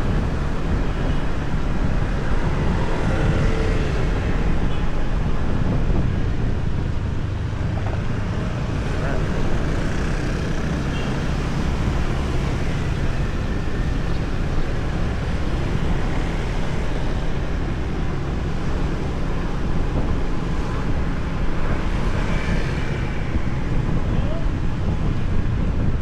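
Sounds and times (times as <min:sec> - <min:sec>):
road noise: 0:00.0 - 0:26.0
wind rush on microphone: 0:00.0 - 0:26.0.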